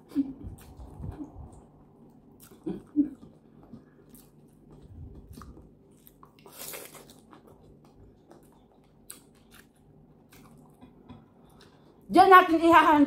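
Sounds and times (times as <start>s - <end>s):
chewing and biting food: 0.5s - 12.0s.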